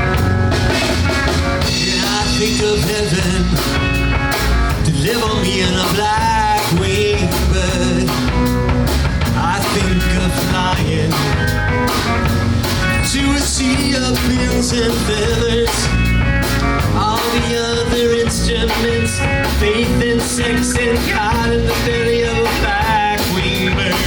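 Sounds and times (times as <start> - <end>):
bass guitar: 0.0 - 24.0
drum kit beat: 0.0 - 24.0
electric guitar: 0.0 - 24.0.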